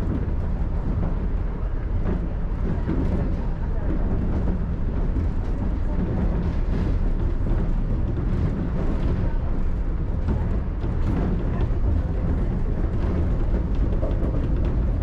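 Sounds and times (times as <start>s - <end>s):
monorail car rumbling: 0.0s - 15.0s.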